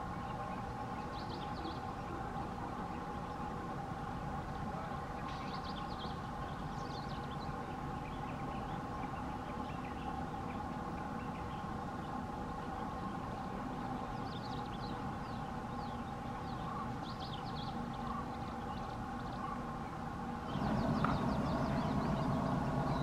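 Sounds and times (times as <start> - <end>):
distant train drone: 0.0 - 23.0
small birds chirping: 0.0 - 23.0.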